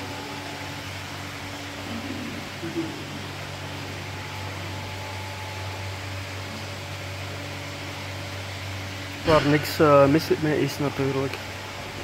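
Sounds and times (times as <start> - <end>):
blowers and water pumps humming: 0.0 - 12.0.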